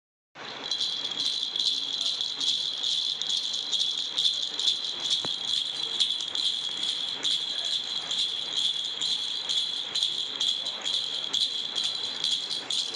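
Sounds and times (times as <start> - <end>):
toy rattle being shaken: 0.4 - 12.9.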